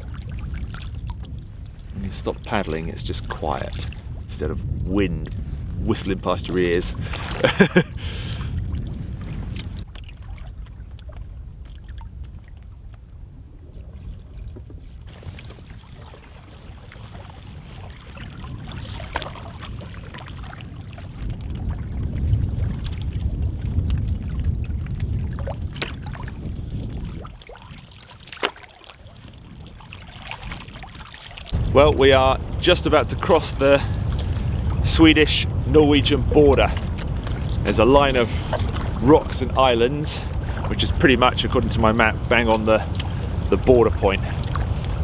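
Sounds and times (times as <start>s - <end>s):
paddle knocks and splashes: 0.0s - 4.3s, 6.4s - 7.8s, 8.4s - 13.1s, 13.7s - 45.0s
water lapping along canoe hulls: 0.0s - 45.0s
wind rumble on microphone: 0.0s - 45.0s.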